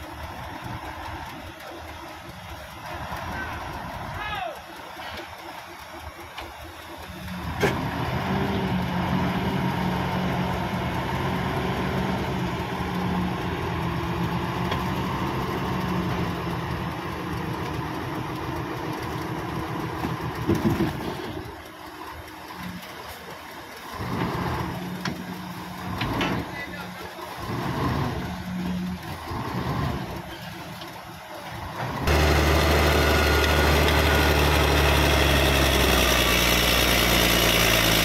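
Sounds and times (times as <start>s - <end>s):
diesel truck engine humming: 0.0s - 38.0s.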